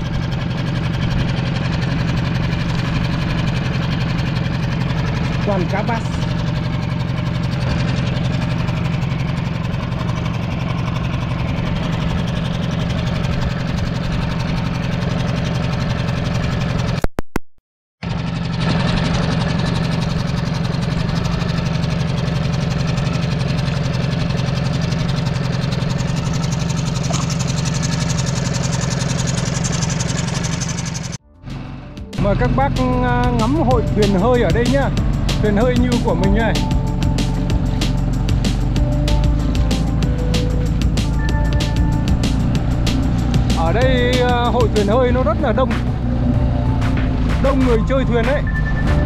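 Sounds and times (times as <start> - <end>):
outboard motor low drone: 0.0 - 17.1, 18.0 - 49.0.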